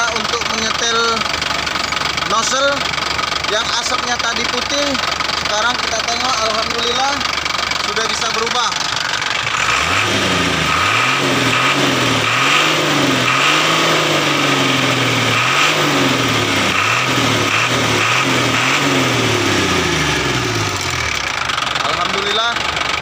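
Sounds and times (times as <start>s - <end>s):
diesel truck engine revving: 0.0s - 23.0s.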